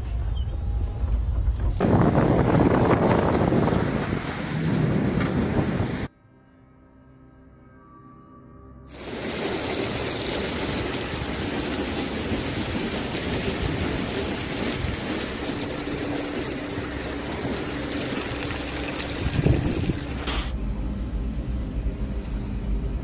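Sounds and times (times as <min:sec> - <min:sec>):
heavy rain and wind rushing: 0:01.1 - 0:06.1, 0:08.9 - 0:23.0.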